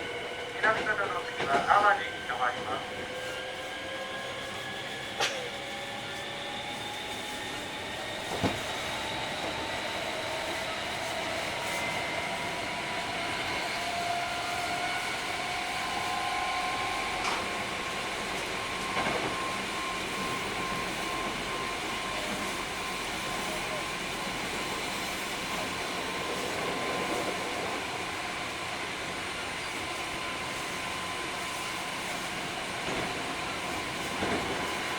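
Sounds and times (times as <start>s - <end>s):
train traction motor whine: 0.0s - 34.9s.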